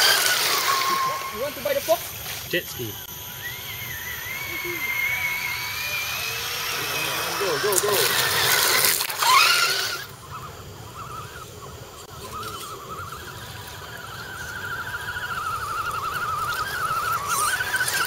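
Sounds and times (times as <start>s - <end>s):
toy truck motor whining: 0.0s - 2.1s, 2.7s - 18.0s.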